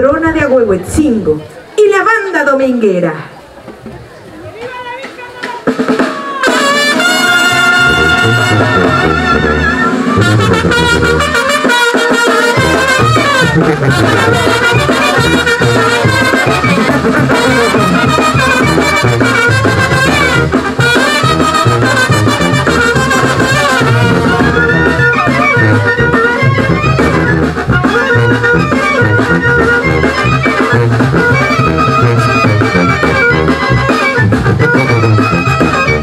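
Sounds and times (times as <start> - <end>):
wind band playing dance tune: 3.7 - 36.0
clarinets and trumpets melody: 5.6 - 36.0
tuba bass line: 6.5 - 36.0.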